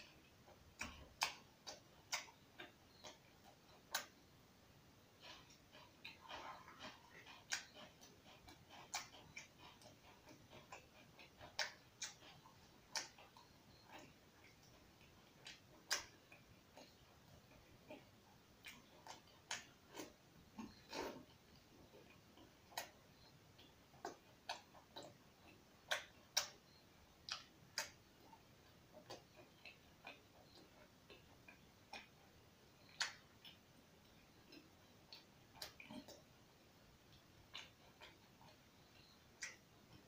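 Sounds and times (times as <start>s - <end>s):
person chewing with smacking lips: 0.0s - 4.2s, 5.0s - 40.0s.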